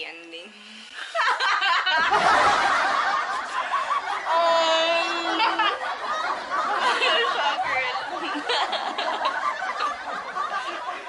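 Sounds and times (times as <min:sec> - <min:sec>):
women laughing: 0:01.1 - 0:11.0.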